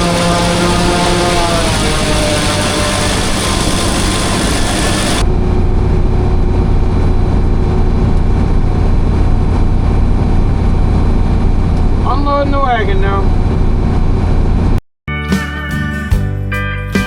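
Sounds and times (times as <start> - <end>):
deep steady engine rumble: 0.0 - 14.8
heavy farm machinery engines: 0.0 - 14.8.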